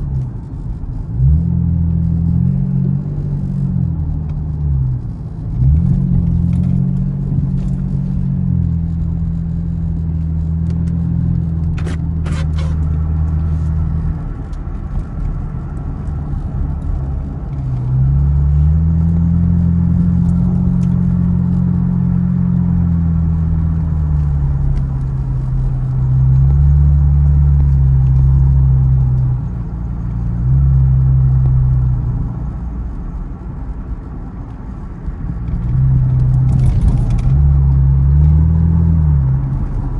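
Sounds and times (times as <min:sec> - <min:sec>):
car engine running deep: 0:00.0 - 0:39.9.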